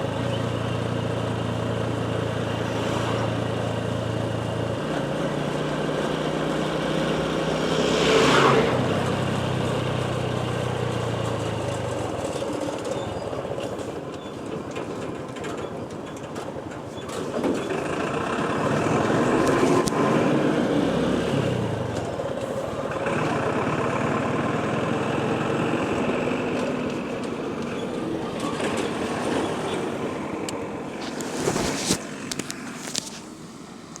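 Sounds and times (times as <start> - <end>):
road and wind noise: 0.0 - 34.0.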